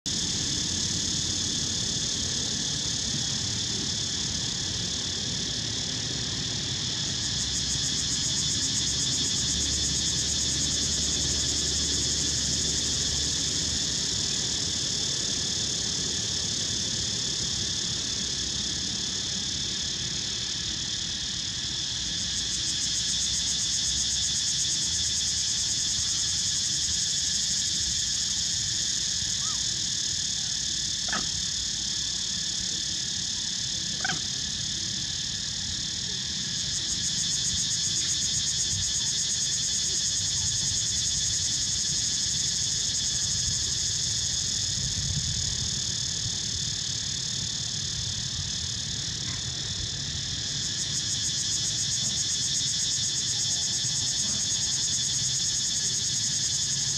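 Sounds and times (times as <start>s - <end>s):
insects buzzing: 0.1s - 56.9s.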